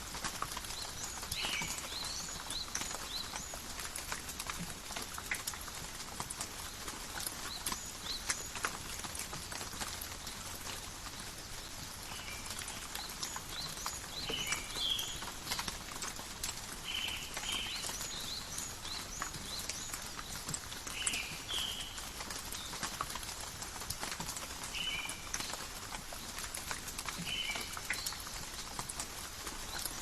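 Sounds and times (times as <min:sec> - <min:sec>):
rain dripping on leaves: 0:00.0 - 0:30.0.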